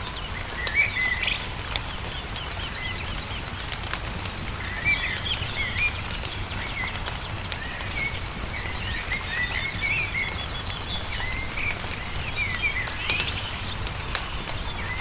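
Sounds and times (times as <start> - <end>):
crackling wood fire: 0.0 - 15.0
songbirds chirping: 0.0 - 15.0
low steady rumble: 2.2 - 15.0.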